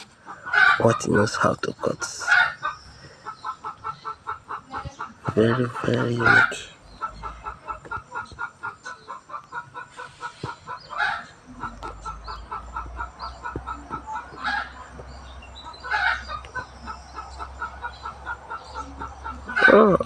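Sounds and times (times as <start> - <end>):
chicken clucking: 0.0 - 20.0.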